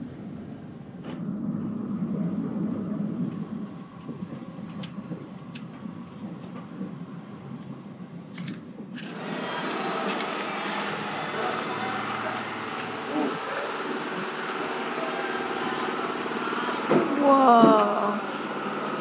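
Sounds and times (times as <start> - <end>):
outdoor noise: 0.0 - 19.0.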